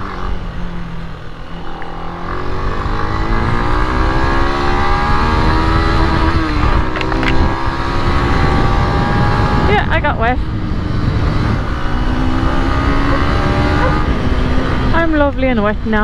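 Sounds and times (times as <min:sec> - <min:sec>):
motorcycle engine revving: 0:00.0 - 0:16.0
wind rushing: 0:02.2 - 0:15.9.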